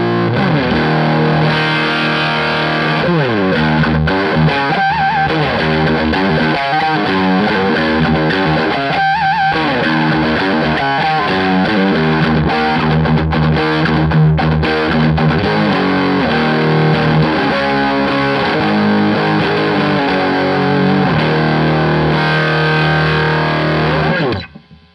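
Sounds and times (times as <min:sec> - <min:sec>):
overdriven electric guitar rock riffs: 0:00.0 - 0:24.9.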